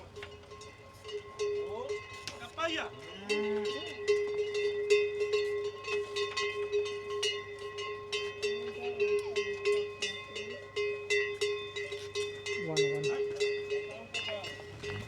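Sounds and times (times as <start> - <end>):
cowbells clanking: 0.0 - 15.0.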